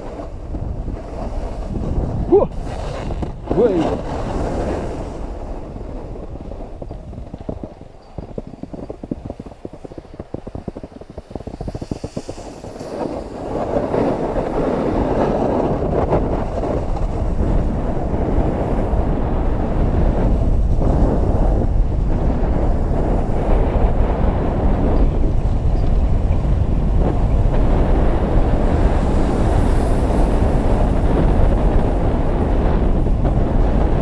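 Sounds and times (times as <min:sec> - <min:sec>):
skis scraping on snow: 0:00.0 - 0:34.0
wind buffeting microphone: 0:00.0 - 0:34.0.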